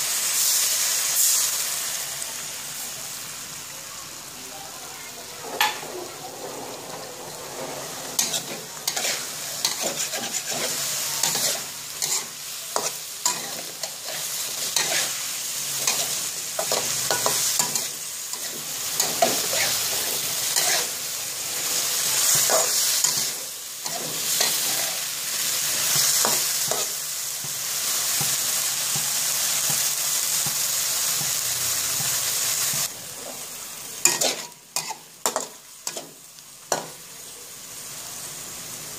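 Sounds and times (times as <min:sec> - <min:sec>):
food sizzling in a wok: 0:00.0 - 0:38.9
spatula scraping a wok: 0:05.4 - 0:37.0.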